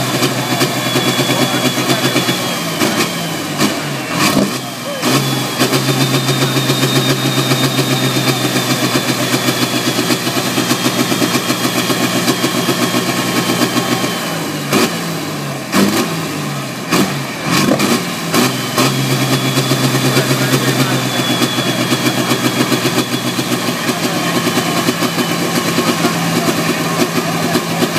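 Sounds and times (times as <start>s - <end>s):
diesel engine idling with whine: 0.0s - 27.9s.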